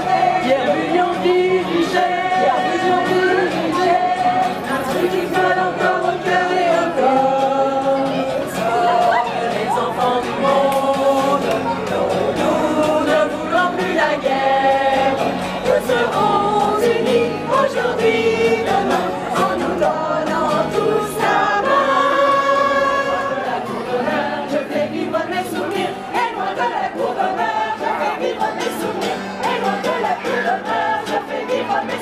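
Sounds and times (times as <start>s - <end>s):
mixed choir singing: 0.0s - 32.0s
strummed acoustic guitar: 0.0s - 32.0s.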